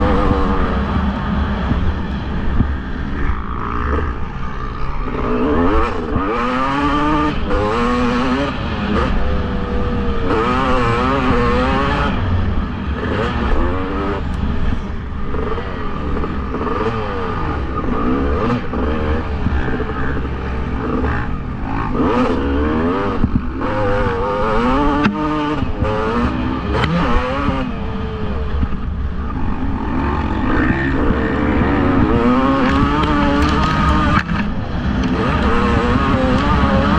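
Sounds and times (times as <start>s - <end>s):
motocross bike engines revving: 0.0s - 36.9s.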